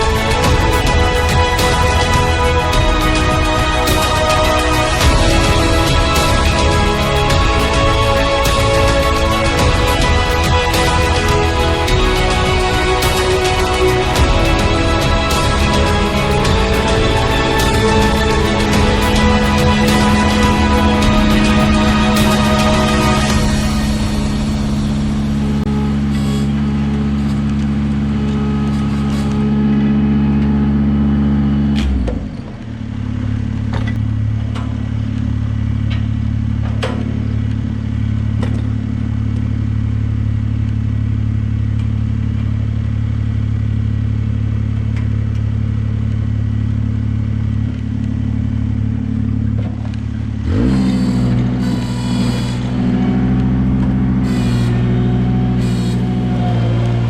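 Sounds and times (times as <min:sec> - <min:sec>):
tractor engine revving: 0:00.0 - 0:57.0.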